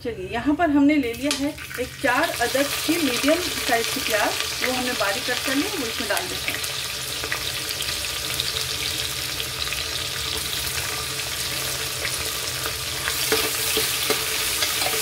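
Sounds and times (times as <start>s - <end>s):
onions sizzling in hot oil: 1.0s - 15.0s.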